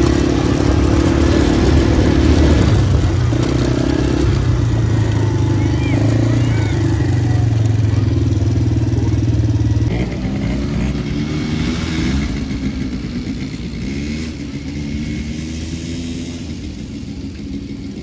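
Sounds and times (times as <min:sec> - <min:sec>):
quad bike engine up close: 0:00.0 - 0:18.0
quad engines riding around track: 0:00.0 - 0:18.0.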